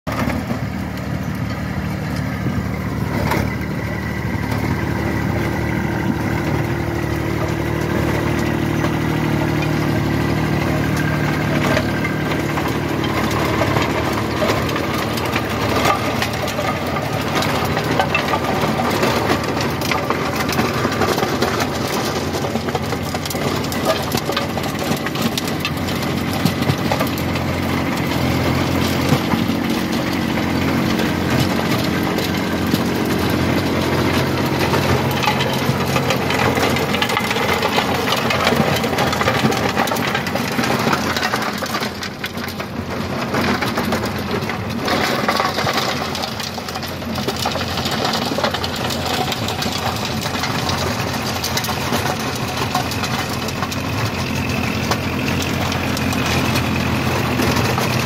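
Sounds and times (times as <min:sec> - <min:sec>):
tractor diesel engines running: 0:00.0 - 0:58.0
rotavator churning soil: 0:00.1 - 0:58.0.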